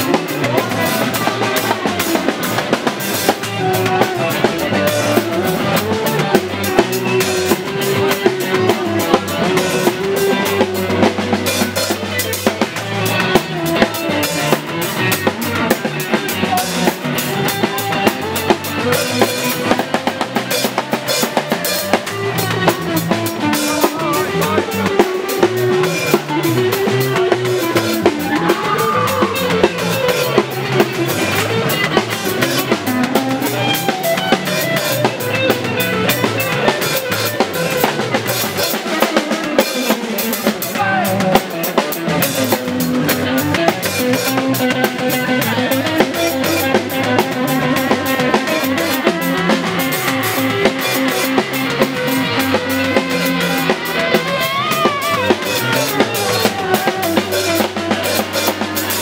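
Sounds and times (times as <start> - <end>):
live band jamming: 0.0 - 59.0
sliding guitar lead line: 0.0 - 59.0.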